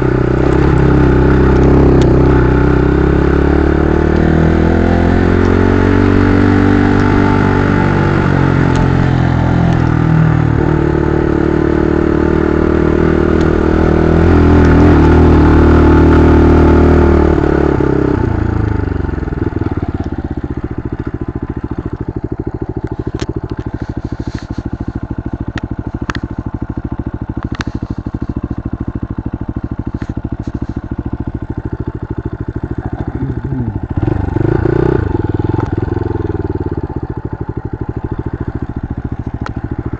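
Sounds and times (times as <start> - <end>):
motorcycle engine idling: 0.0 - 4.3, 5.1 - 39.9
motorcycle engine revving: 0.0 - 39.9.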